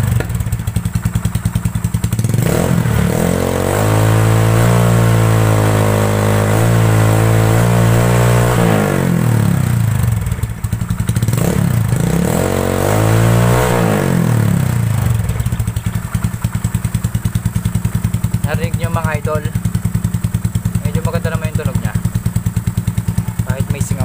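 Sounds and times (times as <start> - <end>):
scooter engine revving and idling: 0.0 - 24.0.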